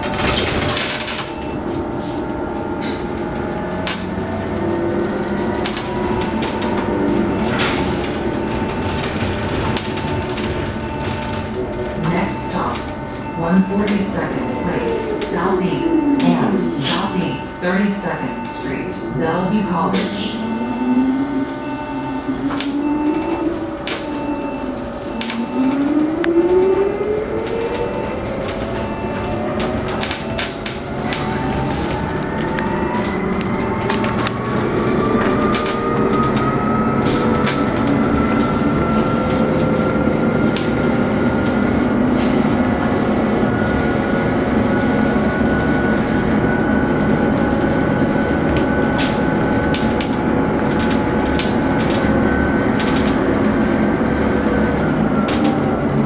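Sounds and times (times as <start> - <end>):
bus road rumble: 0.0 - 56.0.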